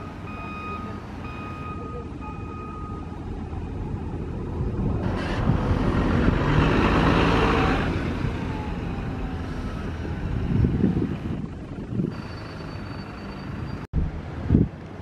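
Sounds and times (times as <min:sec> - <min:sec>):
bus passing: 0:00.0 - 0:15.0.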